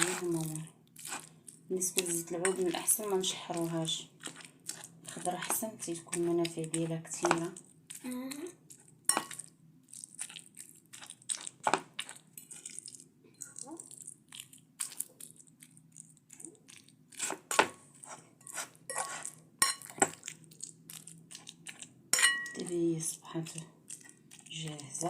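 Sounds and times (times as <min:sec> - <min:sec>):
paste being mashed and stirred: 0:00.0 - 0:25.0.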